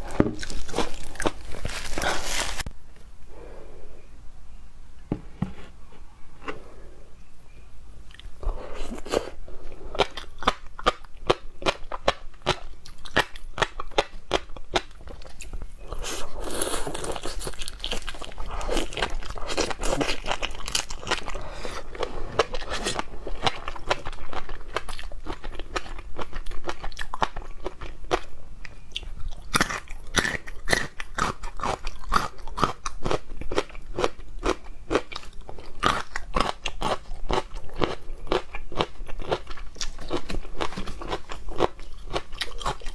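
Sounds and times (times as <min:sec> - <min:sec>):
person chewing and crunching food: 0:00.0 - 0:02.7, 0:08.1 - 0:42.9.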